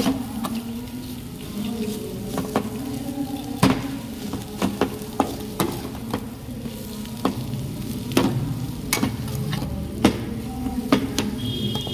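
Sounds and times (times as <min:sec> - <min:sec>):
potatoes sizzling in a pan: 0:00.0 - 0:11.9.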